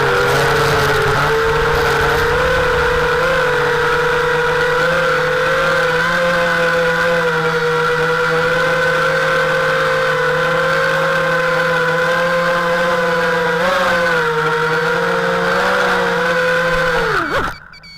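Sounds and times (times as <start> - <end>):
quadcopter motors whining: 0.0 - 17.9.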